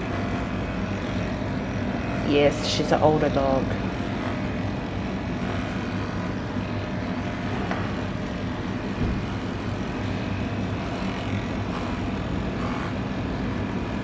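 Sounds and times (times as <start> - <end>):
electric clipper humming: 0.0 - 14.0.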